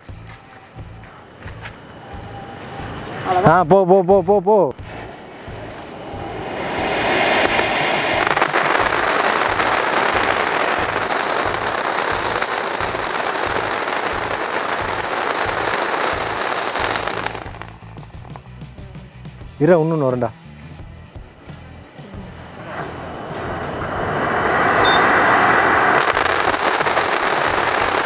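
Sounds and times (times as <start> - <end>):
firecracker hissing sparks: 0.0 - 3.5, 4.8 - 18.0, 21.4 - 28.0.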